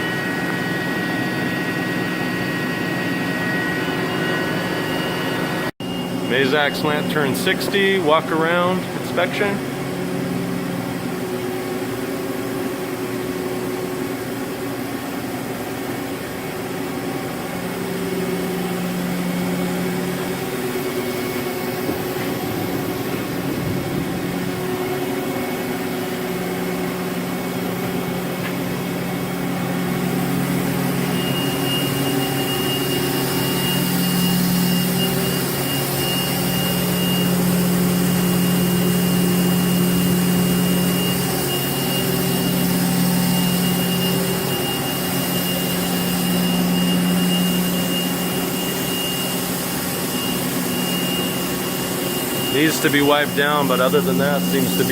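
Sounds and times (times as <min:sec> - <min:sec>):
lathe motors humming: 0:00.0 - 0:54.9
thin high whine: 0:00.0 - 0:54.9.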